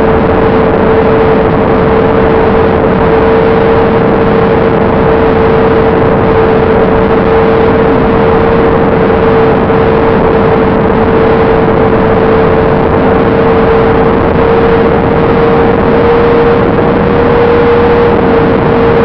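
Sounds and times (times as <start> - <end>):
electric motor propeller whine: 0.0 - 19.0
rushing wind noise: 0.0 - 19.0.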